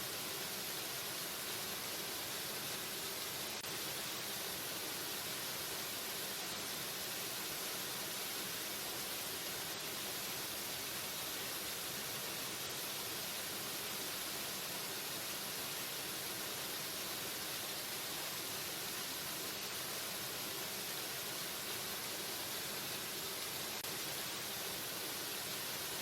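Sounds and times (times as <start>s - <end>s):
waterfall hiss: 0.0s - 26.0s.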